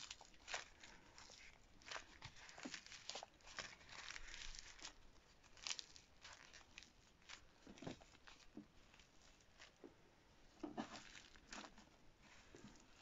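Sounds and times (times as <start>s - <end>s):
clay crackling and tearing: 0.0s - 9.8s, 10.5s - 13.0s.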